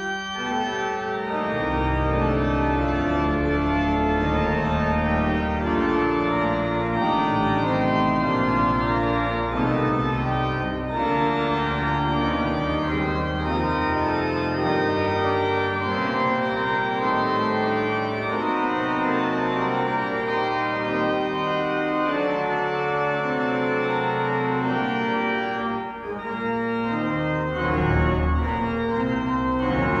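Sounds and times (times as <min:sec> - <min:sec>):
deep organ bass notes: 0:00.0 - 0:30.0
pipe organ chords: 0:00.0 - 0:30.0.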